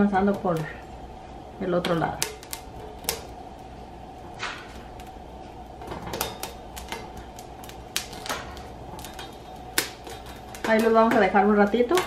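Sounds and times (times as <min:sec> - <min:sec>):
chiles crackling on a hot griddle: 0:00.0 - 0:12.0
steady background hiss: 0:00.0 - 0:12.0.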